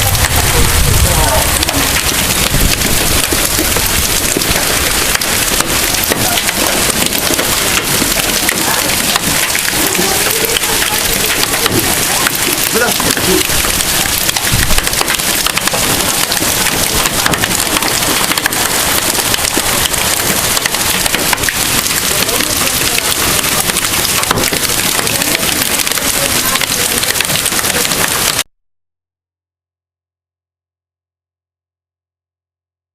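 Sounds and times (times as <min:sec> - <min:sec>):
hail clattering: 0:00.0 - 0:28.4
heavy rain hissing: 0:00.0 - 0:28.4.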